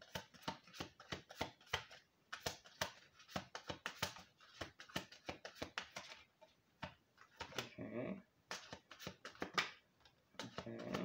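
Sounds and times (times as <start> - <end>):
cards being shuffled: 0.0 - 7.7, 8.4 - 11.0.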